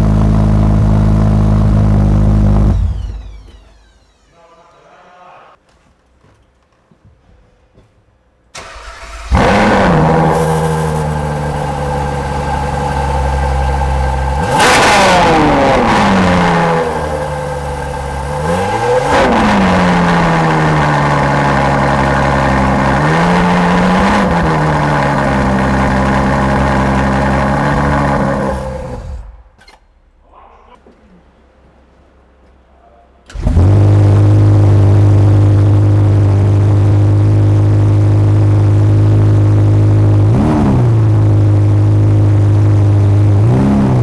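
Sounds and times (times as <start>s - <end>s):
sports car engine revving: 0.0s - 4.4s, 8.6s - 29.5s, 33.3s - 44.0s.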